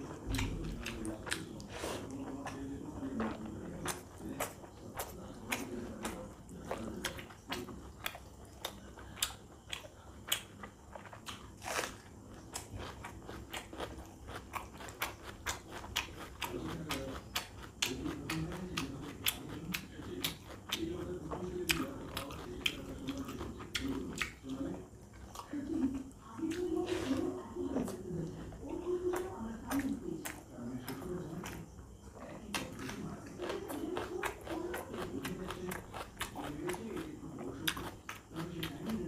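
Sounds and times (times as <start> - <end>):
person chewing with mouth smacks: 0.0 - 39.0.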